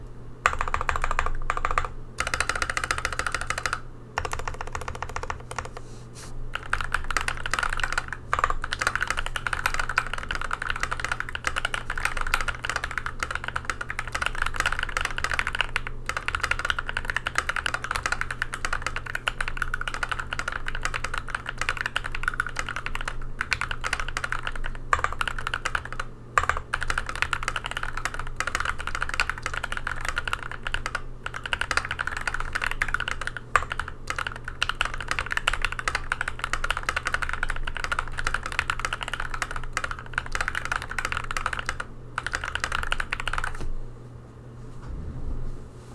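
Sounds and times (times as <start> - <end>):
fast typing on mechanical keyboard: 0.4 - 5.9, 6.5 - 43.6.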